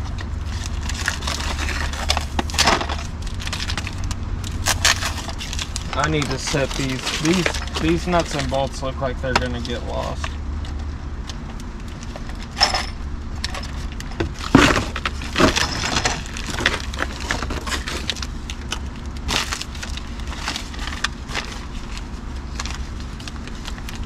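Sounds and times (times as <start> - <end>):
packing paper and bags rustling: 0.0 - 10.3, 13.6 - 24.0
low rumble: 0.0 - 24.0.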